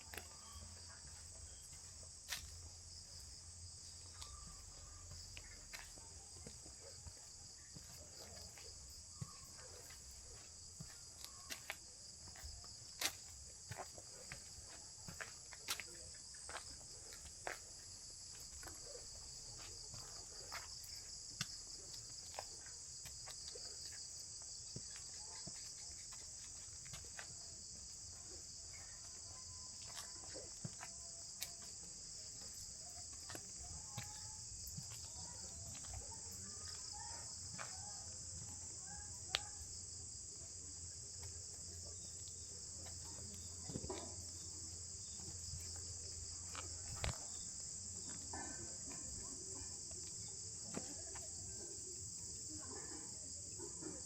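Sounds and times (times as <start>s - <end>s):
high-pitched insect chorus: 0.0s - 50.5s.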